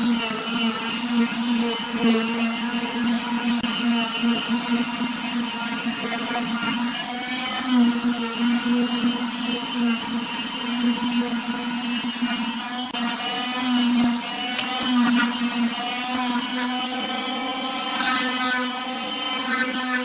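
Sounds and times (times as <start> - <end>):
power tool motor running: 0.0 - 20.0.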